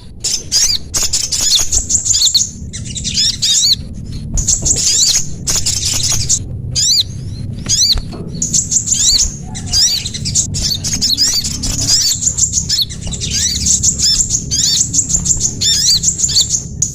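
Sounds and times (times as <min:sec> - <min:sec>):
low steady hum: 0:00.0 - 0:16.9
recorded songbird chirps: 0:00.0 - 0:16.9.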